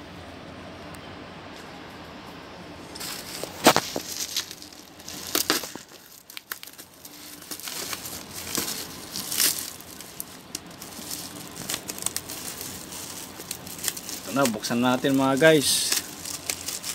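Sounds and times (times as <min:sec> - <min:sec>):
bubble wrap crinkling: 0:02.9 - 0:16.9.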